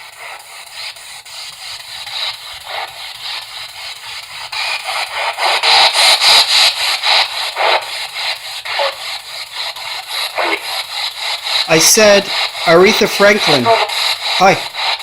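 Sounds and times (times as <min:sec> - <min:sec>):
radio static sweeping stations: 0:01.9 - 0:15.0.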